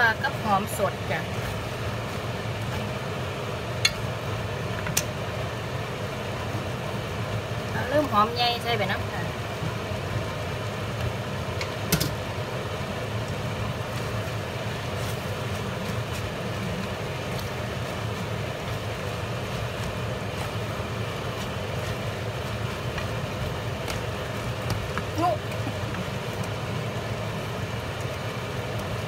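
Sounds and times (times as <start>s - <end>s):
stir-fry sizzling in a pan: 0.0s - 29.0s.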